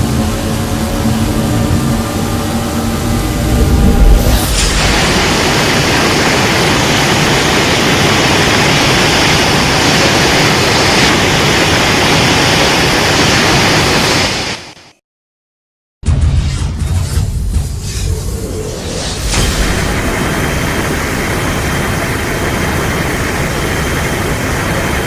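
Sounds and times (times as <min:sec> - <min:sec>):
loud rushing hiss effect: 0:00.0 - 0:14.9, 0:17.8 - 0:25.0.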